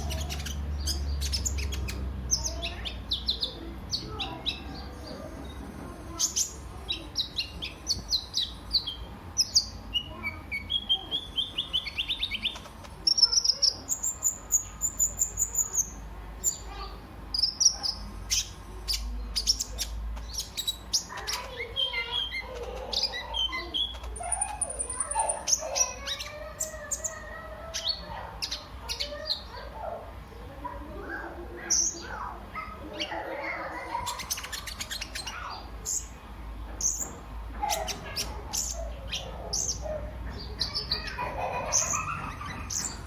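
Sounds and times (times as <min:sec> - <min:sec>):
bird high rapid chirps: 0:00.0 - 0:29.6, 0:31.7 - 0:36.2, 0:36.8 - 0:43.0.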